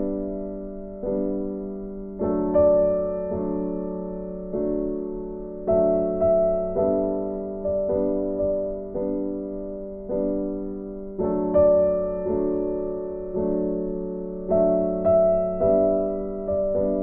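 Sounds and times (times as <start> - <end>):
slow soft piano chords: 0.0 - 17.0.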